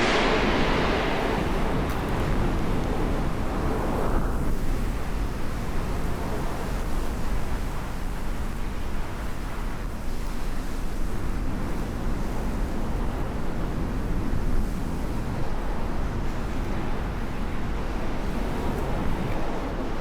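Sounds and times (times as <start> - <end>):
wind blowing on microphone: 0.0 - 20.0.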